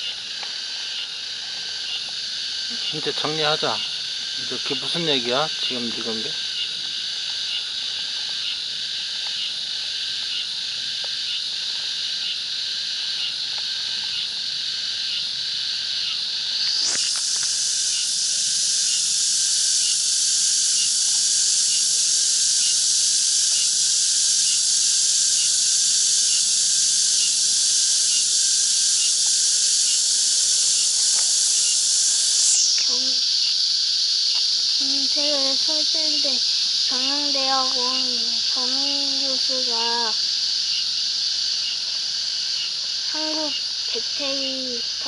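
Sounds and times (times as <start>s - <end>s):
insects chorus droning: 0.0s - 45.0s.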